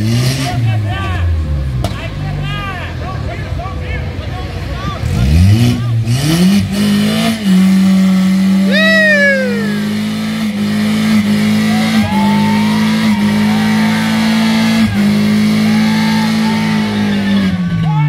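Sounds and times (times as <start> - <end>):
car engine at high revs: 0.0 - 2.1, 4.6 - 18.0.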